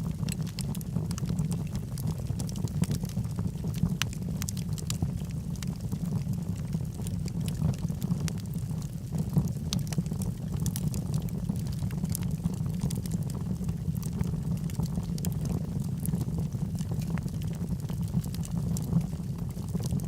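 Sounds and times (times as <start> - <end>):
logs burning in fireplace: 0.0 - 20.0.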